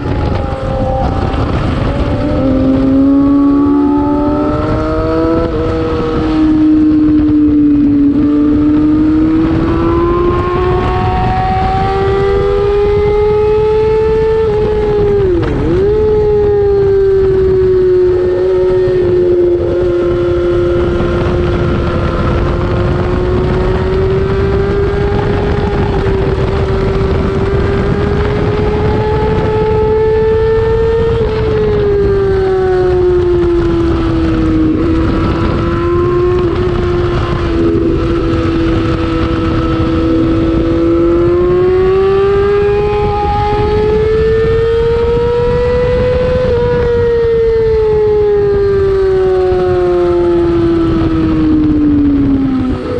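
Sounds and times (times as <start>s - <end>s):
motorcycle engine revving high: 0.0s - 52.9s
wind rush: 0.0s - 52.9s.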